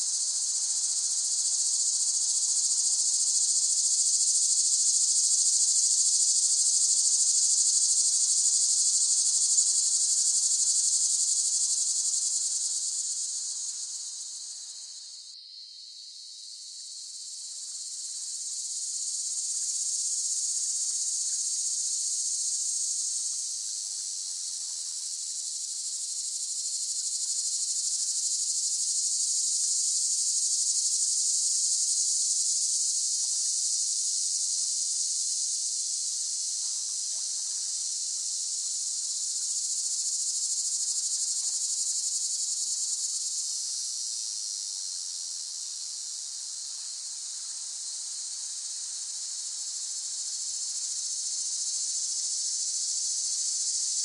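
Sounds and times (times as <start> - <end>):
cicadas droning: 0.0 - 54.0.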